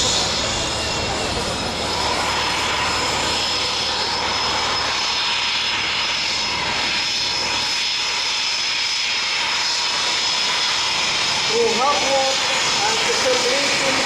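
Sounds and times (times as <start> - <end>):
jet engines rushing and whining: 0.0 - 14.0.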